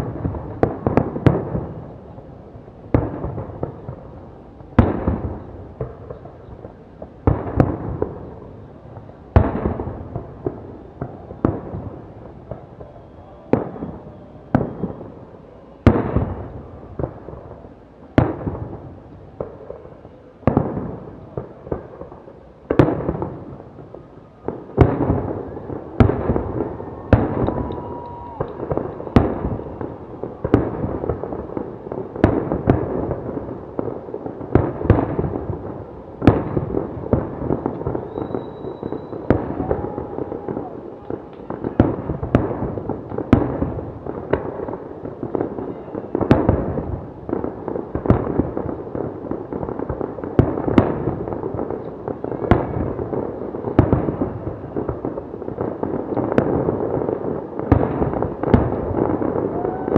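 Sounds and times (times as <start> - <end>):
fireworks bursting with loud bangs: 0.0 - 59.9.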